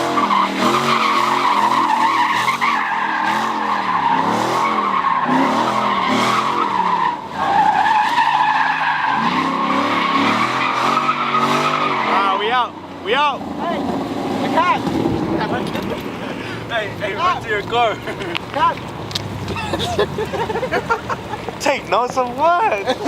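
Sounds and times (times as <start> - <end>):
car engine revving: 0.0 - 21.6
car tyres squealing: 0.0 - 23.0.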